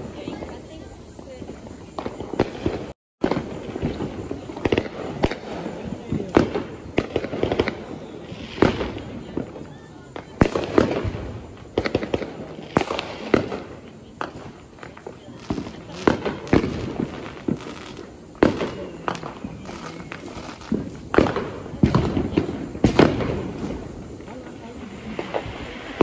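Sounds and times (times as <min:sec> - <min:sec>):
distant fireworks rumble: 0:00.0 - 0:26.0
firecrackers banging: 0:00.0 - 0:26.0.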